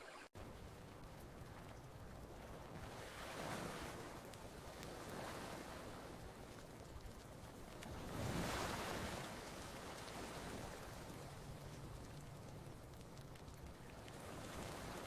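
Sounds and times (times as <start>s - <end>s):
ocean waves washing onto beach: 0.0s - 15.0s
faint campfire crackles: 0.4s - 15.0s.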